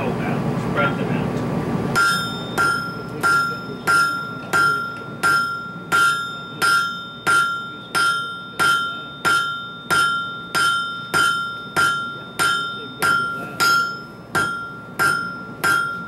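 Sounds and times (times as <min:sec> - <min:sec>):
hammer ringing on anvil: 0:02.0 - 0:16.0.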